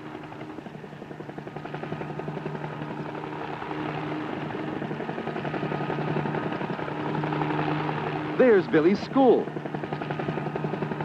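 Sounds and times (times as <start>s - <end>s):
helicopter engine hum: 0.0s - 11.0s
helicopter rotor chop: 0.0s - 11.0s.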